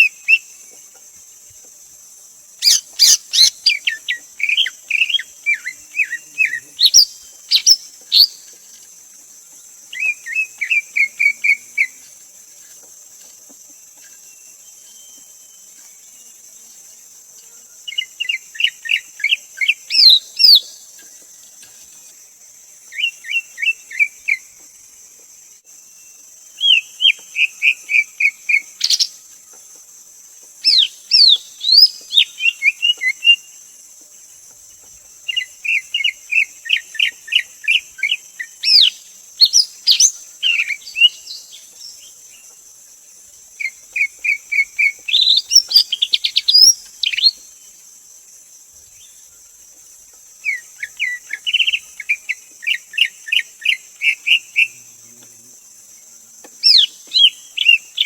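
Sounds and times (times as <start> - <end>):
steady high hiss: 0.0 - 58.0.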